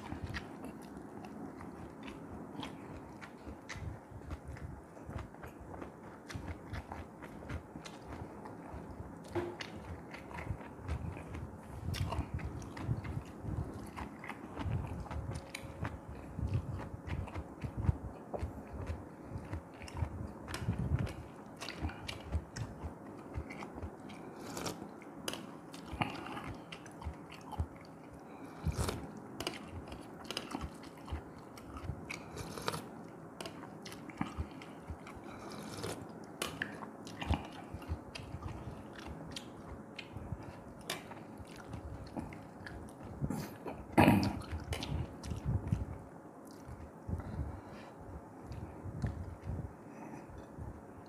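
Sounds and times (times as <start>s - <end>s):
person chewing and biting: 0.0s - 43.6s.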